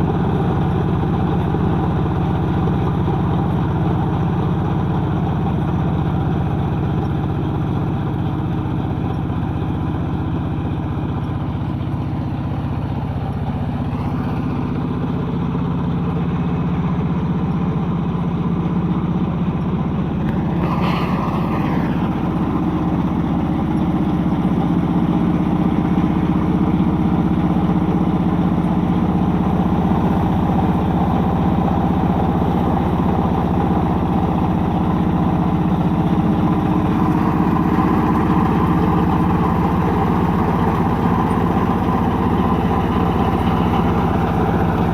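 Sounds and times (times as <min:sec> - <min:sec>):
combine harvester engine hum: 0:00.0 - 0:44.9.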